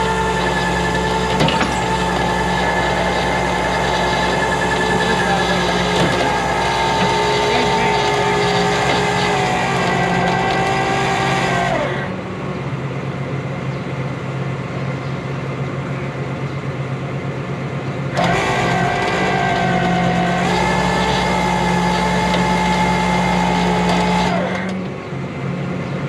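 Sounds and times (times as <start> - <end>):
engine whine: 0.0 - 26.0
truck engine running: 0.0 - 26.0.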